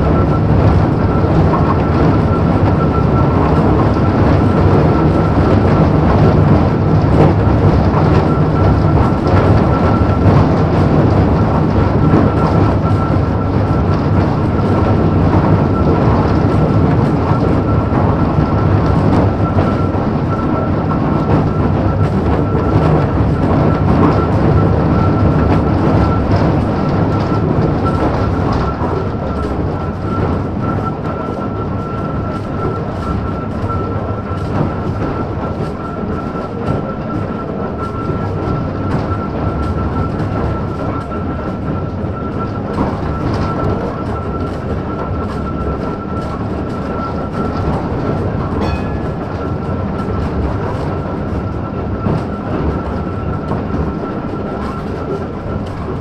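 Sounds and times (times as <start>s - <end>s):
steady high whine: 0.0s - 56.0s
tram wheels rumbling on rails: 0.0s - 56.0s.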